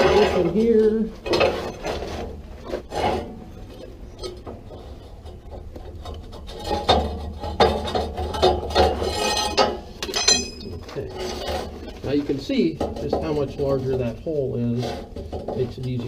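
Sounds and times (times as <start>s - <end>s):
metal scraping on metal: 0.0s - 16.0s.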